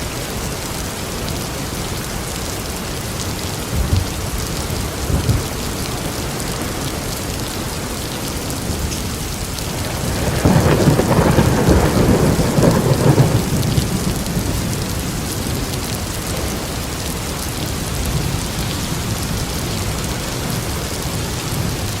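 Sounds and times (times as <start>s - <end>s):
heavy rain: 0.0s - 22.0s
thunder rumbling: 0.1s - 22.0s.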